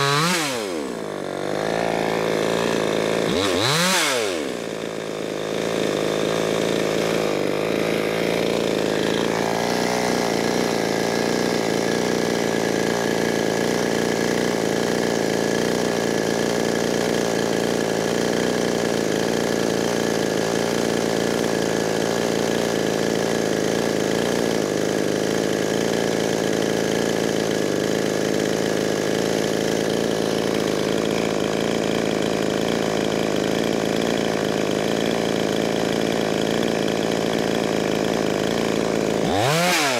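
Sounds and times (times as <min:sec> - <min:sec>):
chainsaw idling: 0:00.0 - 0:39.9.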